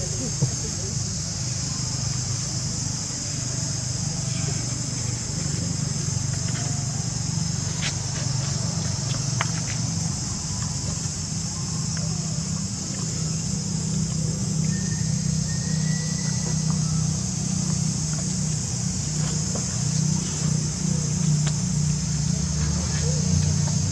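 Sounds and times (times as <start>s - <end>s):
insects droning: 0.0s - 23.9s
low steady rumble: 0.0s - 23.9s.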